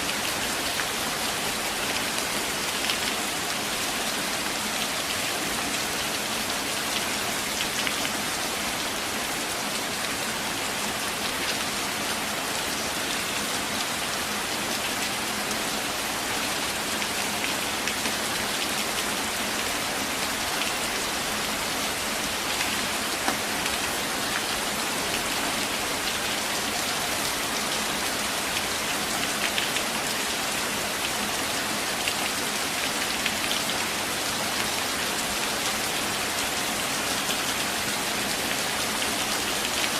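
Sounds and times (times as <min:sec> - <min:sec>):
steady rain in forest: 0:00.0 - 0:39.9.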